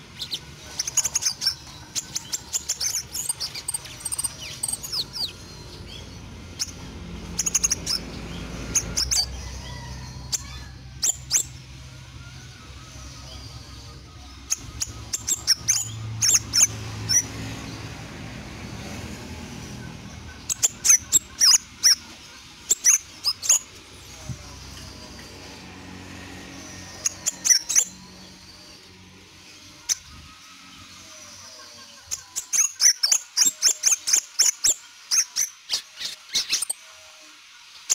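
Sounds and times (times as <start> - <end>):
bird chirping high: 0.1 - 25.6, 26.4 - 36.8.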